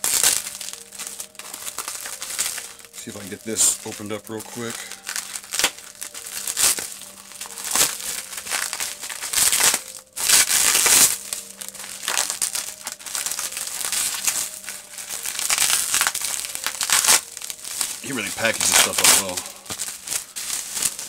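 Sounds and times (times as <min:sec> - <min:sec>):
bubble wrap crinkling: 0:00.0 - 0:21.0.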